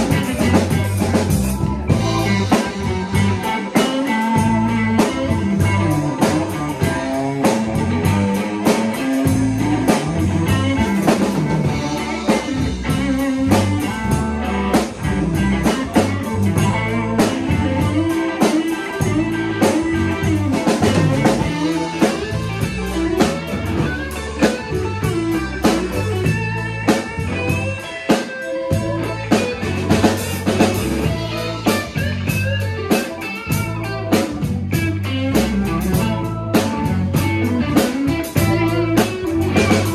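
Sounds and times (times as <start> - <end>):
bass: 0.0 - 39.9
drum kit: 0.0 - 39.9
electric guitar lines: 0.0 - 39.9.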